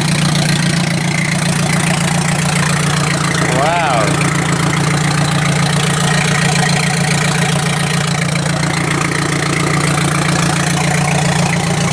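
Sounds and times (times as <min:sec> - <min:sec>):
loud unmuffled engine idling: 0:00.0 - 0:11.9.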